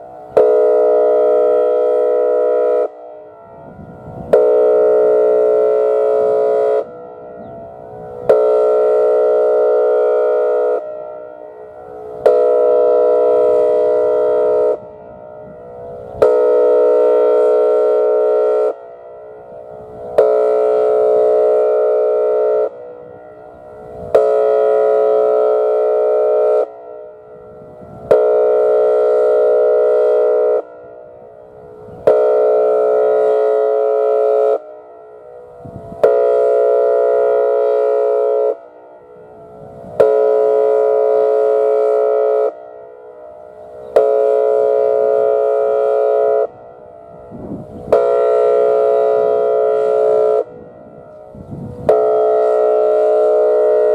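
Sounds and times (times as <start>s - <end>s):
siren air horn blasts: 0.0s - 53.9s.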